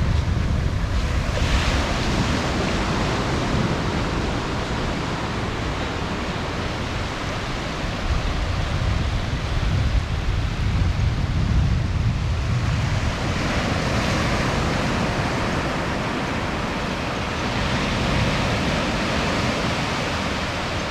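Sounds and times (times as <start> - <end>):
ocean surf breaking: 0.0 - 20.9
wind rumble on microphone: 0.0 - 20.9.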